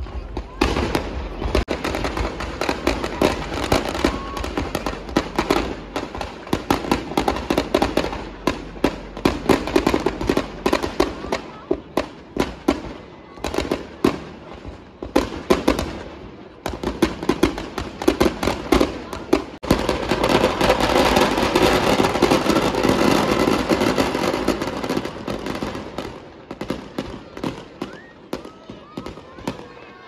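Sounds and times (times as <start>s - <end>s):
firecrackers banging: 0.0s - 30.0s.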